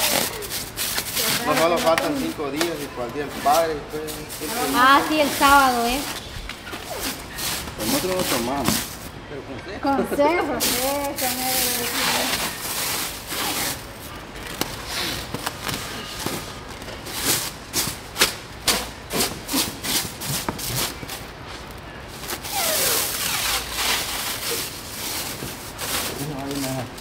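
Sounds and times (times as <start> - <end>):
stretch wrap crackling and rasping: 0.0 - 9.2, 10.6 - 27.0.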